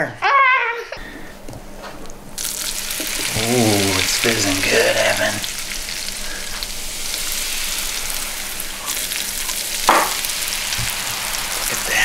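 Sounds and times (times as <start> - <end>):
foam bubbles fizzing: 2.4 - 12.0.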